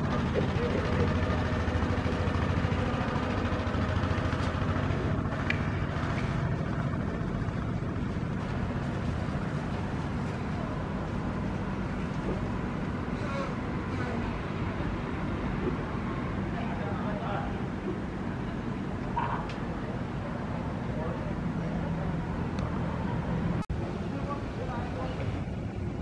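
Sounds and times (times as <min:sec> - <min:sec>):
engines and road traffic rumble: 0:00.0 - 0:26.0.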